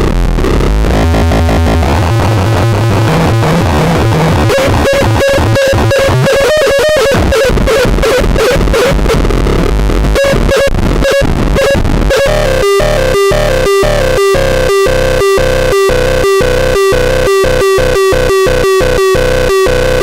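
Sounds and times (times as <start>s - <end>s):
glitchy electronic noise: 0.0s - 20.0s
pulsing electronic tone: 0.7s - 9.1s, 9.8s - 19.9s.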